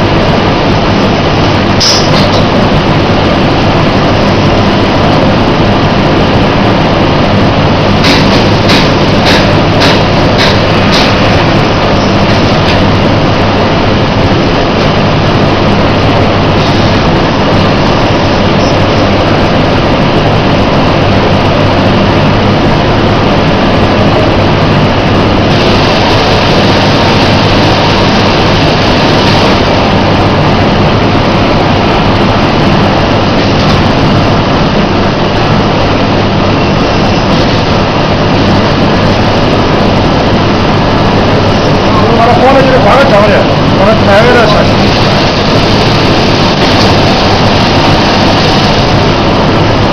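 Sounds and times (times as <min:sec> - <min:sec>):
bagging machinery running: 0:00.0 - 0:49.9.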